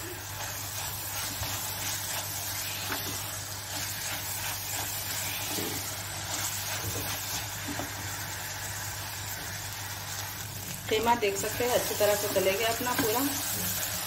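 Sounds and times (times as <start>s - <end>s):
meat and potatoes sizzling in oil: 0.0s - 14.0s
spatula stirring in a pot: 0.0s - 14.0s.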